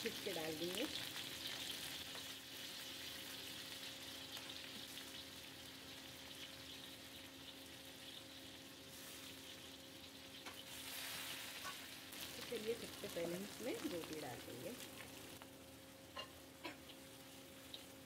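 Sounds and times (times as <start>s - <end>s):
chillies and garlic sizzling in oil: 0.0s - 18.0s.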